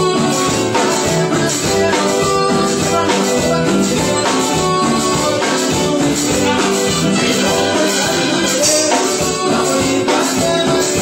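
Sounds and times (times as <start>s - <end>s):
live band playing latin music: 0.0s - 11.0s.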